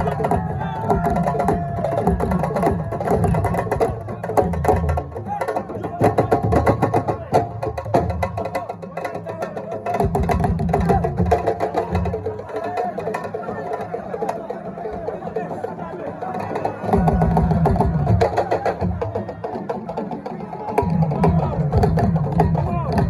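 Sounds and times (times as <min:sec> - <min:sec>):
music with fast percussion: 0:00.0 - 0:23.0.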